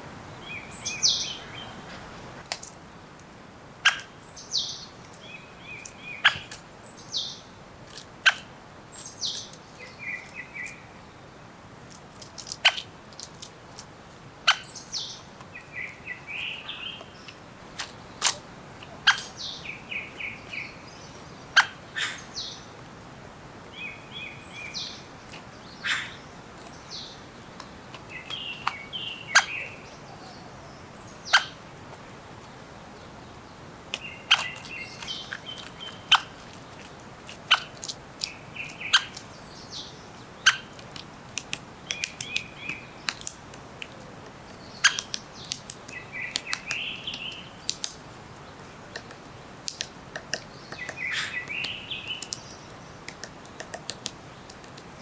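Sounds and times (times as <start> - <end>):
soft steady background noise: 0.0 - 55.0
songbirds chirping: 0.0 - 55.0.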